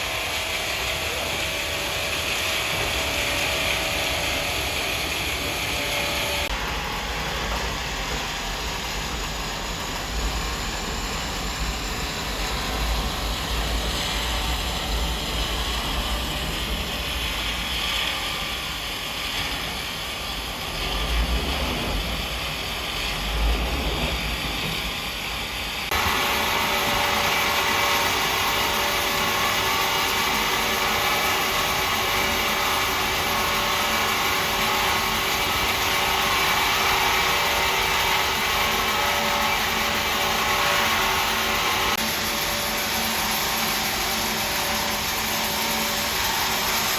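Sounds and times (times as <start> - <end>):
sawmill machinery running: 0.0 - 46.9.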